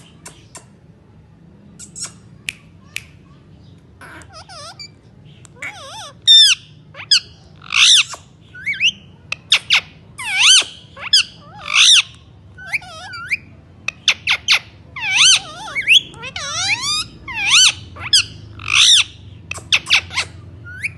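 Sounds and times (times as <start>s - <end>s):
parrot squawking: 4.0s - 20.9s.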